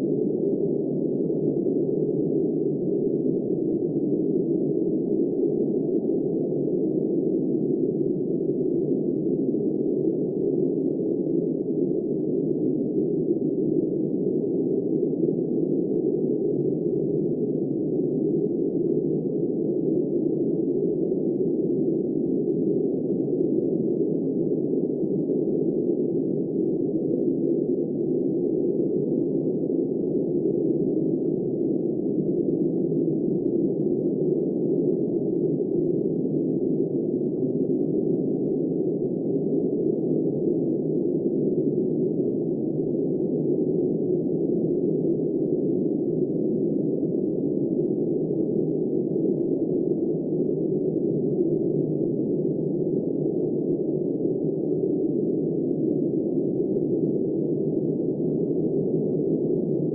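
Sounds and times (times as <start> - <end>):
muffled wind noise: 0.0 - 59.9.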